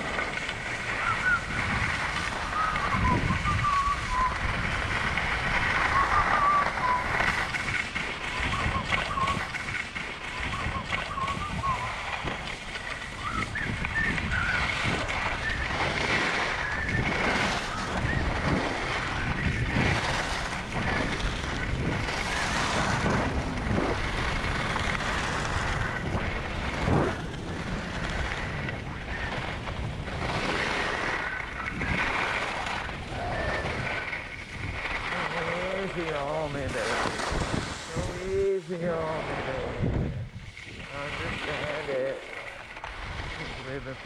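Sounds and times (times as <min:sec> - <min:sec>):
skis scraping on snow: 0:00.0 - 0:44.0
wind on microphone: 0:00.0 - 0:44.0.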